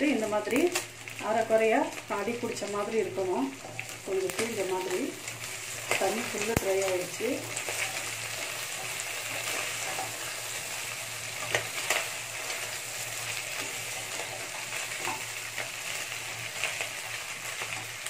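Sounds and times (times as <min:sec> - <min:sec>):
chicken sizzling in pan: 0:00.0 - 0:18.0.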